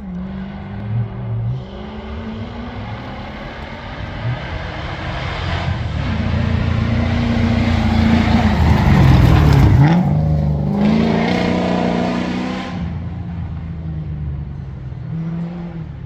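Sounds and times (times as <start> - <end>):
racing car engine under hard throttle: 0.0 - 16.0.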